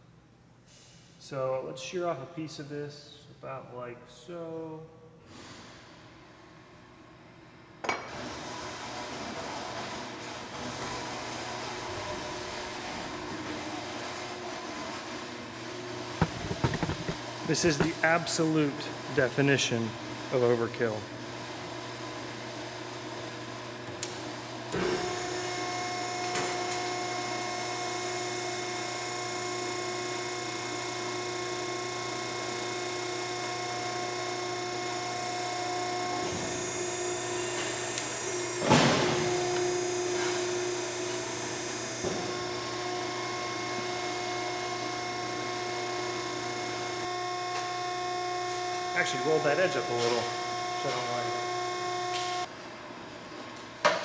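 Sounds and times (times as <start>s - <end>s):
hydraulic motor and pump humming: 7.8s - 54.0s.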